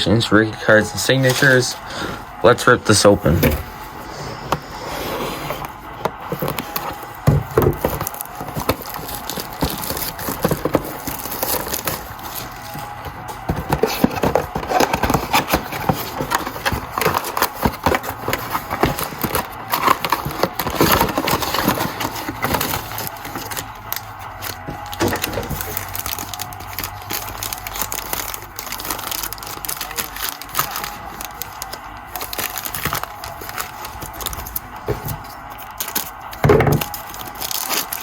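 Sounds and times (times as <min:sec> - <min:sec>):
wrapping and cardboard crinkling: 0:00.0 - 0:38.0
packs ripping open: 0:03.4 - 0:38.0.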